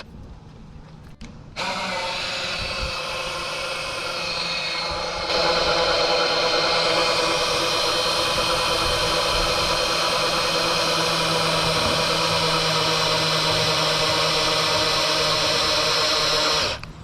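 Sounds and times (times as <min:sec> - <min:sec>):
power drill motor running: 0:01.6 - 0:17.0.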